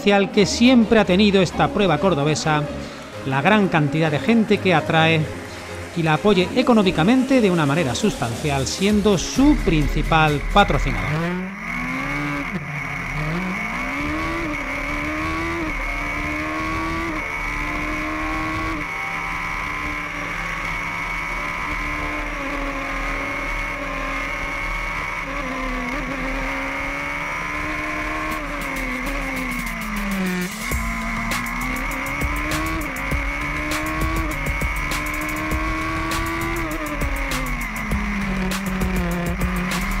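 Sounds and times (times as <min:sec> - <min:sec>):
racing car engine revving: 0:00.0 - 0:40.0.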